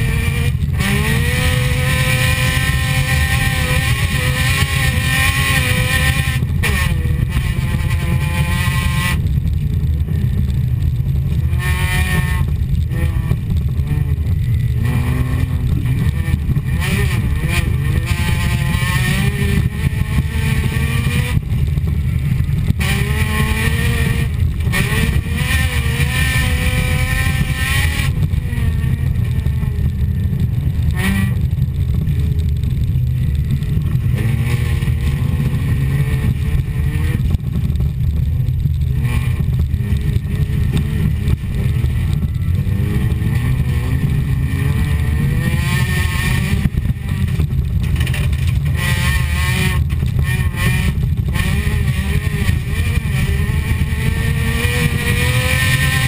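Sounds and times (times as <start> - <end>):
heavy steady rumble: 0.0 - 56.0
race car engine revving: 0.0 - 56.0.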